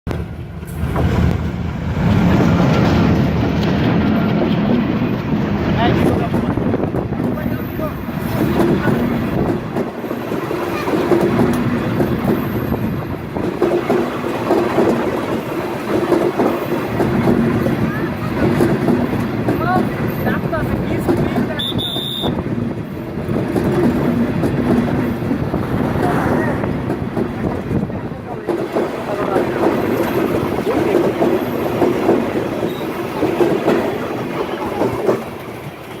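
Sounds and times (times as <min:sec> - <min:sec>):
train wheels rumbling on rails: 0:00.0 - 0:36.0
wheels clicking over rail joints: 0:02.0 - 0:36.0.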